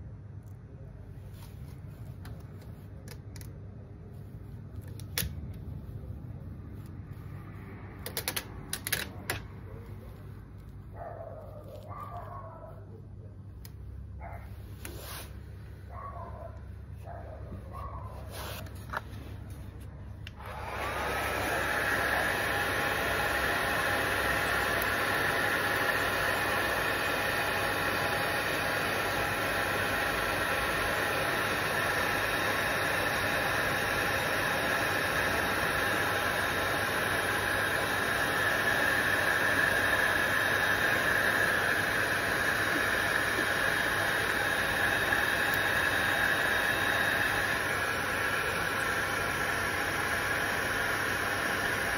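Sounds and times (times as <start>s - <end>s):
heat gun fan whining: 1.9s - 11.1s, 11.7s - 51.9s.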